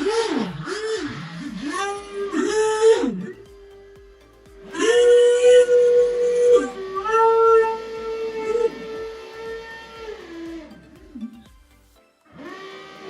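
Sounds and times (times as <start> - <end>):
music with sliding held notes: 0.0 - 13.0.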